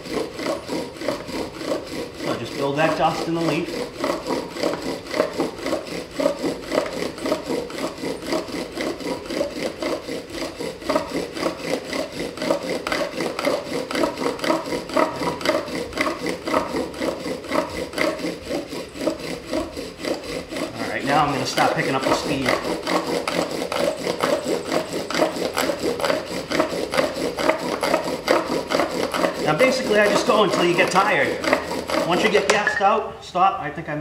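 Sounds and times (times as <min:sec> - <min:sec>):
bow drill wooden rasping: 0:00.0 - 0:33.2.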